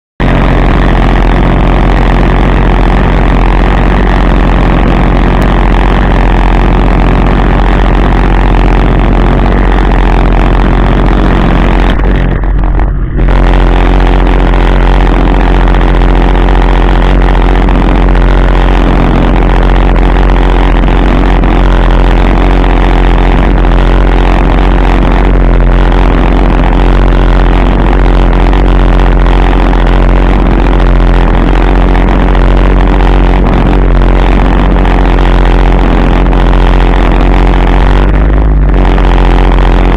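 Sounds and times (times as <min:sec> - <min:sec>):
personal watercraft engine running: 0:00.2 - 0:39.9.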